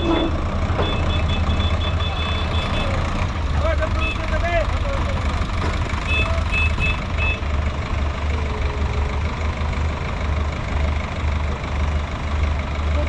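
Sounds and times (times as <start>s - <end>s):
diesel tractor engine throbbing: 0.0s - 13.0s.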